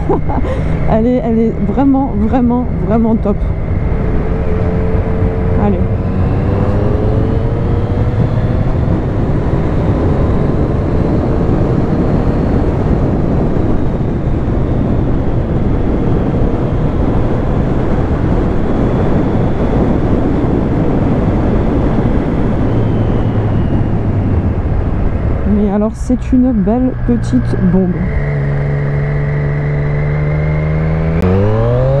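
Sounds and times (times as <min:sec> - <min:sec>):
motorcycle engine running: 0:00.0 - 0:18.6, 0:21.0 - 0:32.0
wind and road noise: 0:00.0 - 0:32.0.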